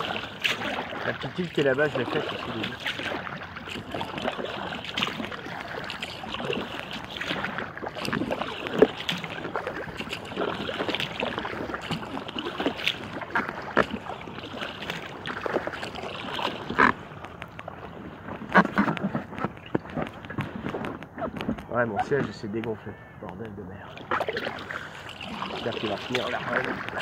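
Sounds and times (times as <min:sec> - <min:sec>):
paddle splashing water: 0:00.0 - 0:27.0
water lapping at hull: 0:00.0 - 0:27.0.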